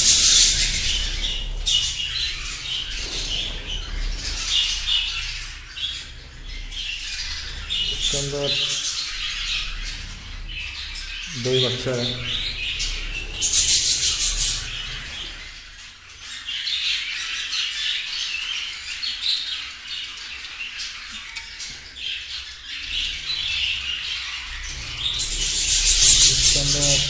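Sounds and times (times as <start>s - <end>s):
budgerigars chirping and calling: 0.0s - 27.0s.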